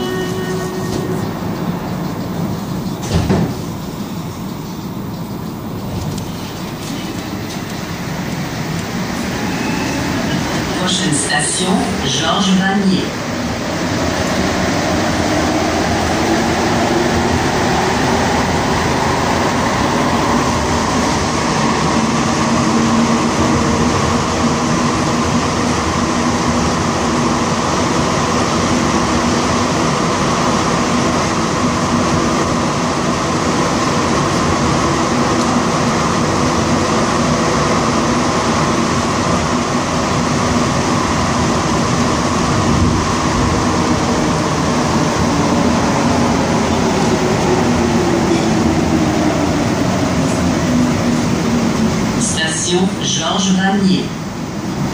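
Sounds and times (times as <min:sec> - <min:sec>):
train rumbling through tunnel: 0:00.0 - 0:54.9.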